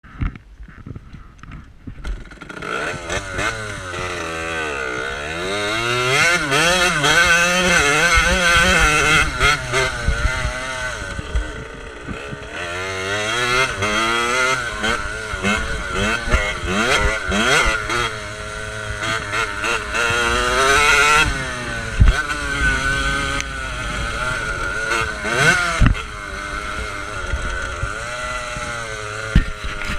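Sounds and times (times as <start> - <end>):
motocross bike engine revving: 1.6 - 29.9.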